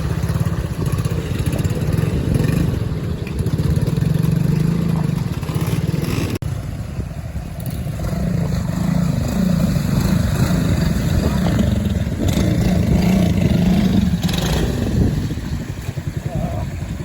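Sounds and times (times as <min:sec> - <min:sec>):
motorcycle engine revving: 0:00.0 - 0:06.9, 0:07.5 - 0:17.0.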